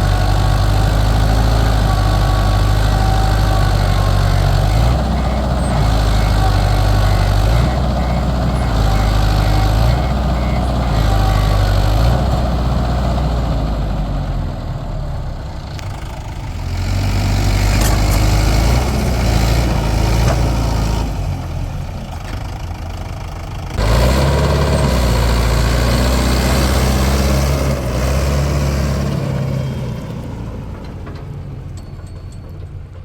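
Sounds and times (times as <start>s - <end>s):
heavy machinery diesel engine: 0.0s - 33.0s.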